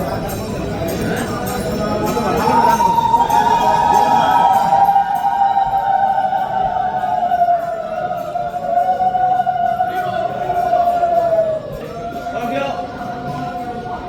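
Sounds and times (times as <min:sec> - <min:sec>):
temple bells ringing faintly: 0:00.0 - 0:14.0.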